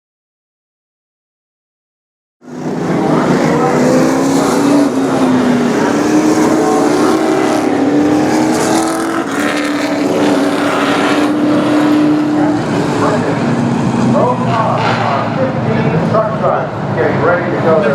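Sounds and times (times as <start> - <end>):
race truck engines: 2.4 - 17.9.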